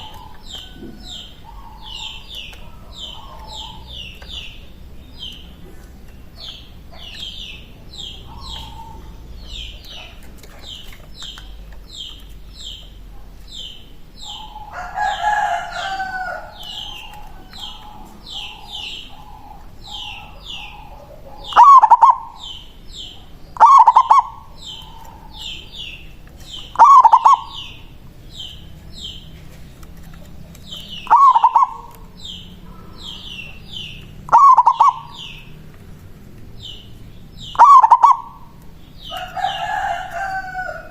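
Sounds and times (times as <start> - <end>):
dove cooing: 0.0 - 29.4, 30.1 - 35.5, 36.6 - 40.9
bird chirping high: 0.0 - 35.7, 36.6 - 40.9.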